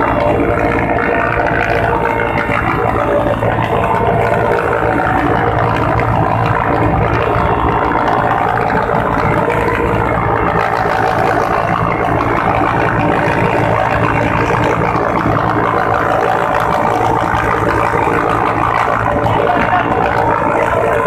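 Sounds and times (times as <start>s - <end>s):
helicopter turbine and rotor drone: 0.0s - 21.0s.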